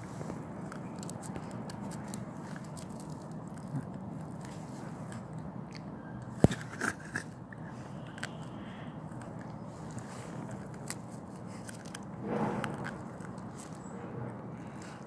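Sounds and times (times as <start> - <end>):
dog chewing pine cone: 0.0 - 15.0.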